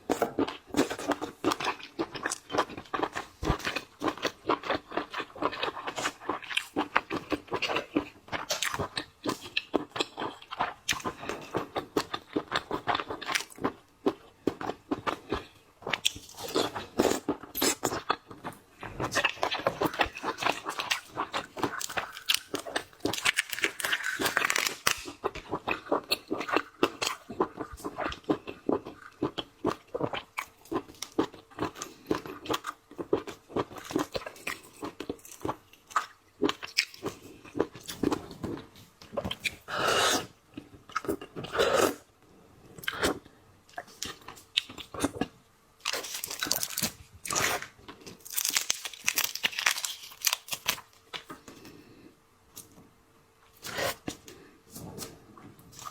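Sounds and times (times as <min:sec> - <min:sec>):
crunching of seafood shells: 0:00.1 - 0:39.7, 0:44.0 - 0:51.8.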